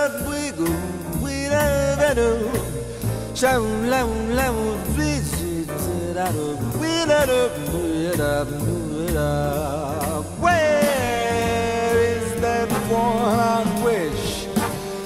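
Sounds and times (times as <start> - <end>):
jazz orchestra ballad: 0.0 - 15.0.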